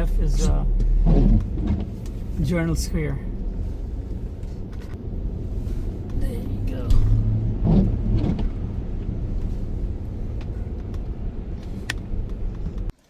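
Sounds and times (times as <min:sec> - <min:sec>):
car driving rumble inside cabin: 0:00.0 - 0:12.9.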